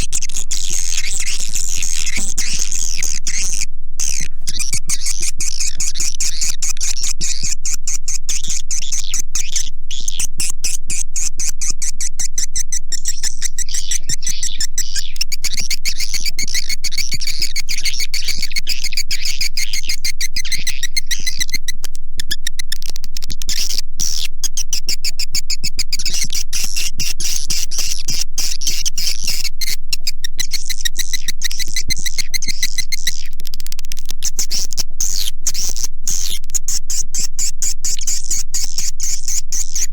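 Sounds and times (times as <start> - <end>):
swiftlet chirps and clicks: 0.0 - 39.9.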